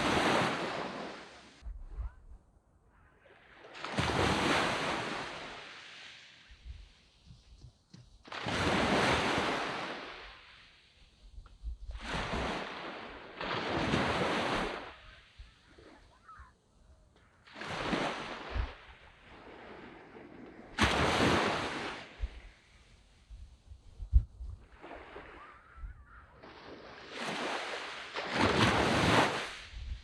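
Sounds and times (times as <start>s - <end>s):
waves breaking on a beach: 0.0s - 1.6s, 3.1s - 30.0s.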